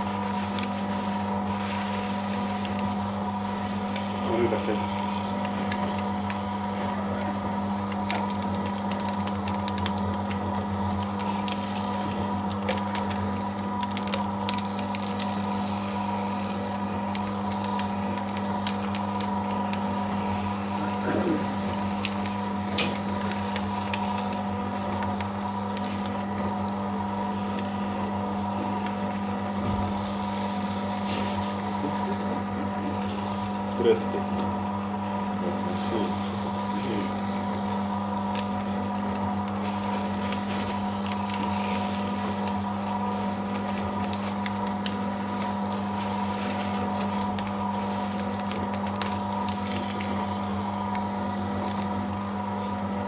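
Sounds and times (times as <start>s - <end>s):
paper shredder motor humming: 0.0s - 53.0s.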